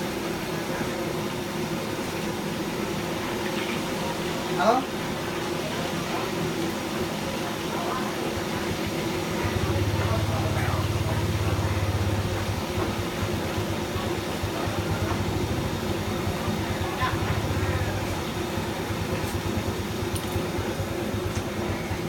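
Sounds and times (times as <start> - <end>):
gas burner rumble: 0.0 - 22.0.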